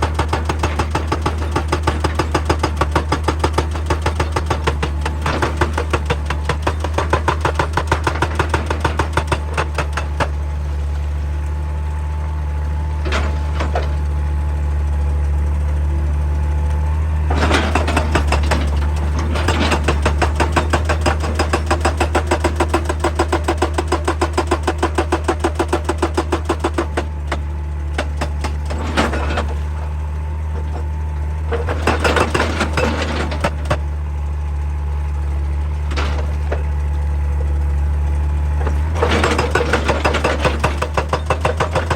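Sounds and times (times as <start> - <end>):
hydraulic breaker pounding rock: 0.0 - 11.5, 12.8 - 14.2, 17.2 - 34.0, 35.3 - 41.9
excavator diesel engine running: 0.0 - 41.9.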